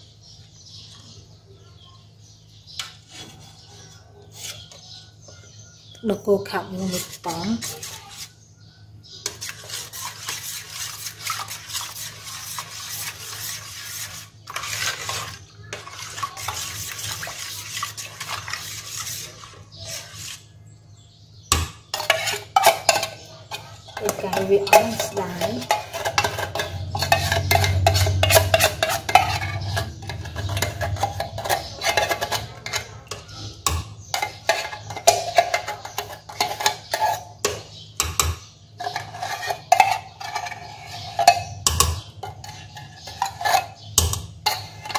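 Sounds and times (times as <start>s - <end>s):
spoon scraping tin can: 6.7s - 8.4s, 9.2s - 20.5s, 21.9s - 44.9s.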